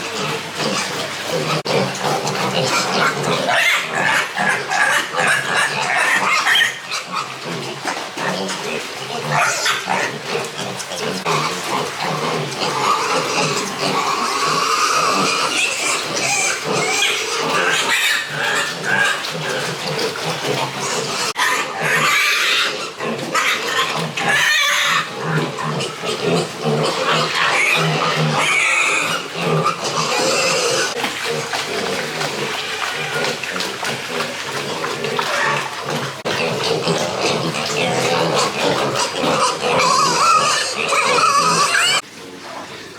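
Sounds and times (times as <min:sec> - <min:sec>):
pigs grunting: 0:00.0 - 0:42.9.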